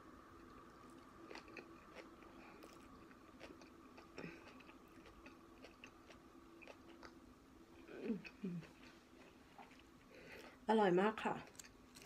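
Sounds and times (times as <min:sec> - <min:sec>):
faint steady hum: 0:00.0 - 0:12.0
faint chewing: 0:00.4 - 0:07.2, 0:07.8 - 0:10.7, 0:11.4 - 0:12.0.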